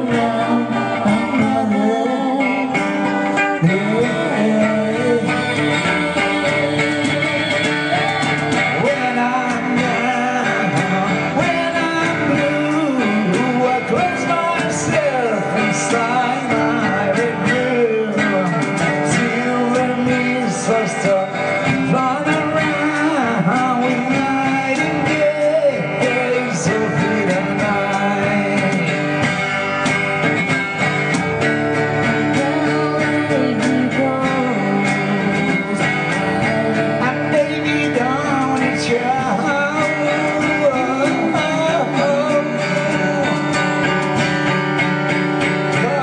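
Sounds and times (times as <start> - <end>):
man and woman singing: 0.0 - 29.2, 32.0 - 44.2
acoustic guitar strumming: 0.0 - 46.0.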